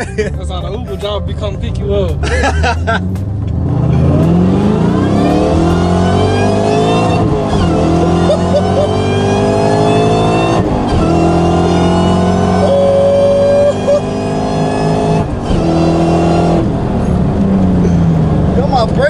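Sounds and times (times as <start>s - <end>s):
car engine accelerating hard: 1.3s - 19.0s
supercharger whine: 3.2s - 19.0s.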